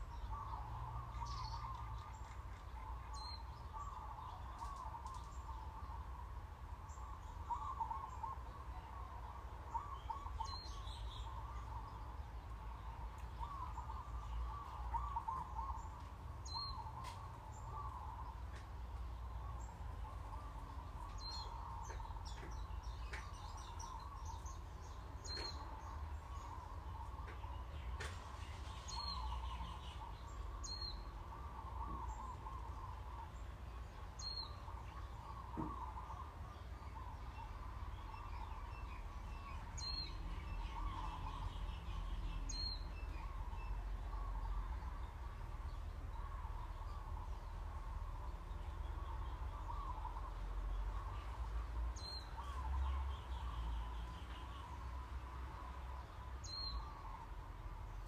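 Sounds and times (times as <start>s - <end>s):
birds chirping and warbling: 0.0s - 58.0s.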